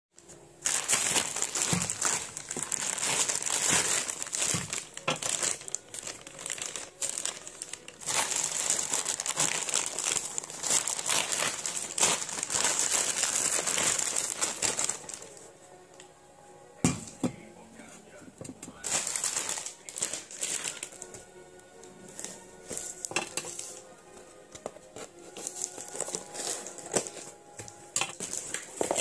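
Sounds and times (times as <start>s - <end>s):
plastic bag crinkling: 0.2s - 15.5s, 18.7s - 21.3s, 22.1s - 23.9s, 24.9s - 29.0s.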